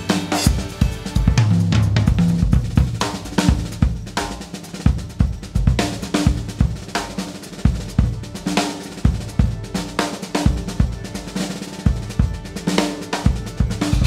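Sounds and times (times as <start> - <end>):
drum kit playing: 0.0 - 14.0.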